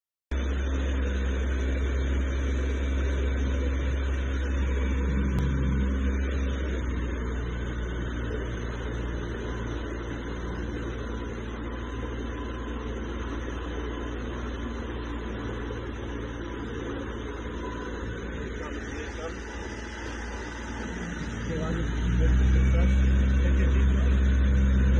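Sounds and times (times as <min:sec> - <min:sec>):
motorboat engine drone: 0:00.3 - 0:24.9.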